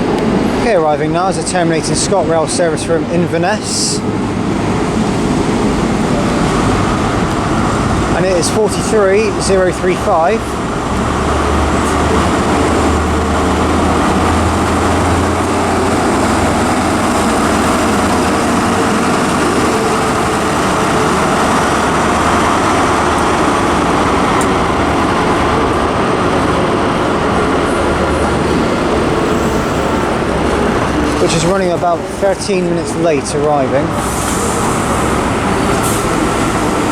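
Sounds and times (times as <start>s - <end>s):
diesel locomotive deep hum: 0.0s - 36.9s
train noise: 0.0s - 36.9s.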